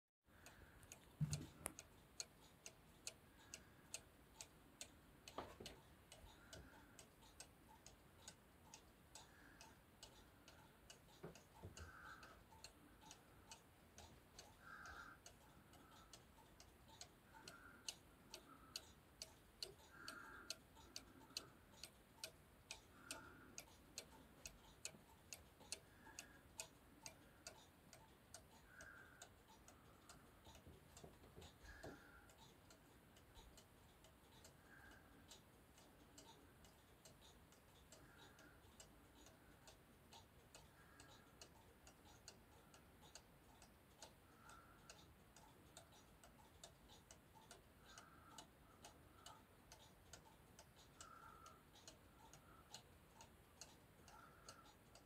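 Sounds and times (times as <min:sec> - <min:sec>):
clock ticking: 0:00.3 - 0:55.0.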